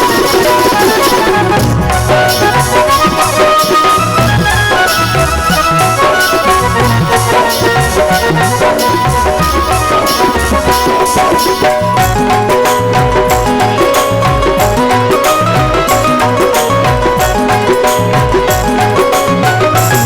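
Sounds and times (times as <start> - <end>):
hand-drum beat: 0.0 - 20.0
reed-keyboard melody: 0.0 - 20.0.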